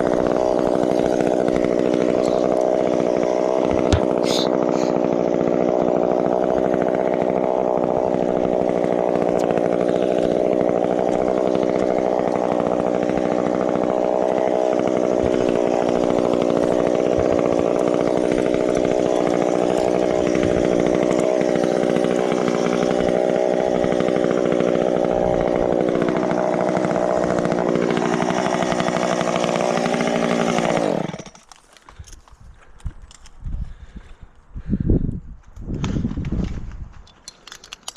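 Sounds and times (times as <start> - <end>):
chainsaw running at high revs: 0.0 - 32.0.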